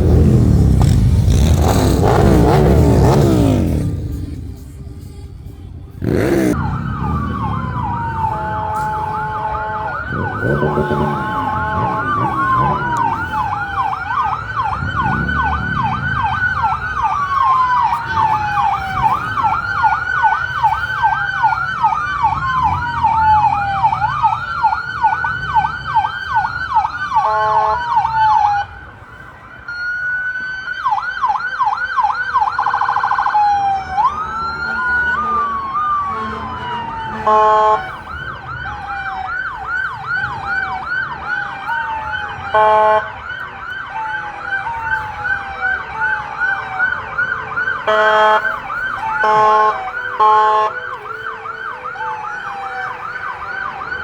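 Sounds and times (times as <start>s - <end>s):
emergency vehicle sirens: 0.0s - 54.0s
low vehicle rumble: 0.0s - 54.0s.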